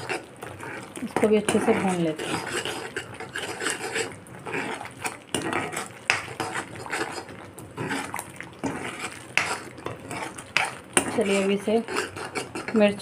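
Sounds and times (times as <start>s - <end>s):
paste frying: 0.0s - 13.0s
spoon scraping paste in pan: 0.0s - 13.0s.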